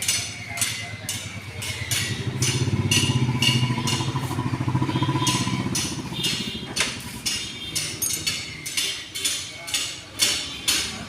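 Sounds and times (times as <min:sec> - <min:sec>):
engine idling: 0:00.0 - 0:08.9
sharp taps: 0:00.0 - 0:10.9.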